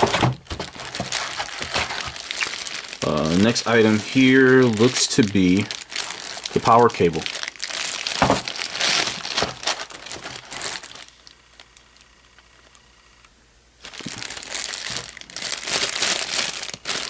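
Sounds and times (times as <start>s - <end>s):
plastic bags crinkling: 0.0s - 12.0s, 13.8s - 17.0s.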